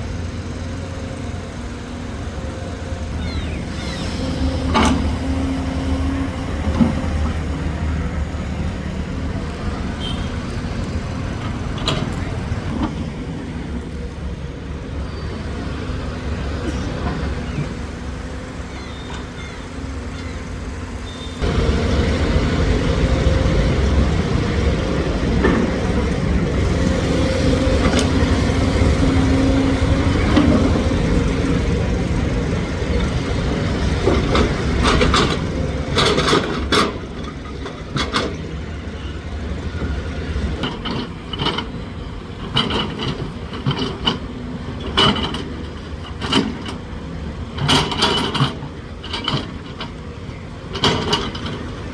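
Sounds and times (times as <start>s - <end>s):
heavy engine running: 0.0s - 51.9s.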